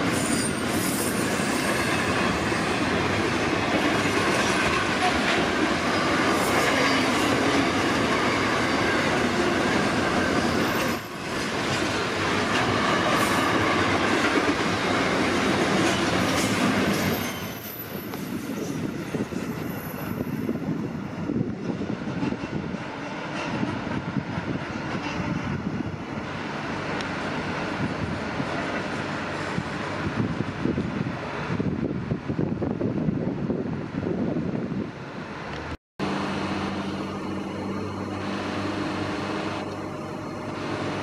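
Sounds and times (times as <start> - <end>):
freight train wagons rolling past: 0.0 - 32.9.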